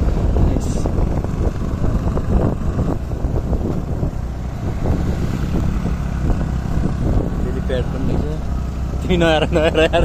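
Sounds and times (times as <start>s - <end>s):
motorcycle engine running: 0.0s - 10.0s
wind rumbling on microphone: 0.0s - 10.0s.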